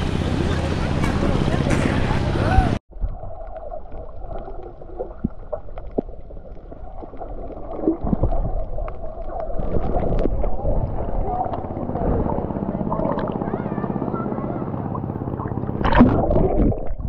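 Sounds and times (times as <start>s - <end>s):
underwater rumble of moving water: 0.0s - 17.0s
faint underwater clicks and gurgles: 2.9s - 17.0s.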